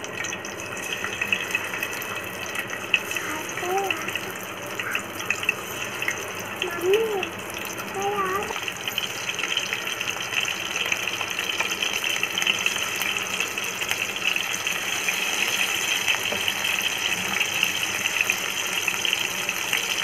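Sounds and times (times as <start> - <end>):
squid deep-frying in oil: 0.0 - 20.0.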